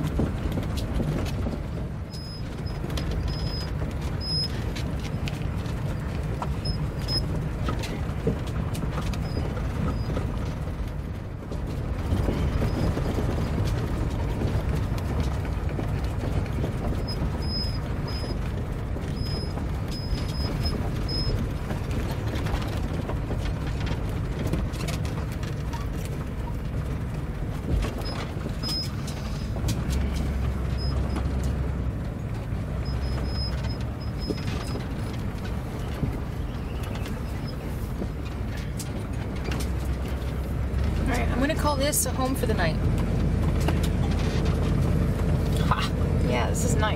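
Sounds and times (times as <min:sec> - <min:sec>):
engine and road rumble: 0:00.0 - 0:46.9
rattles and knocks: 0:00.0 - 0:46.9.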